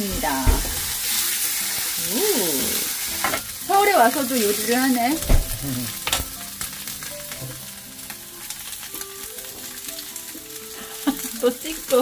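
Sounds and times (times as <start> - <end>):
steak sizzling in a hot pan: 0.0 - 12.0.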